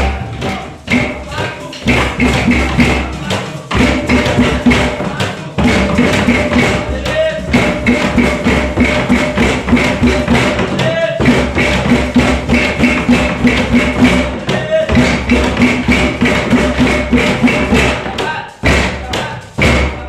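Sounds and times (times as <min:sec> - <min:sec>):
music with fast percussive beat: 0:00.0 - 0:20.0.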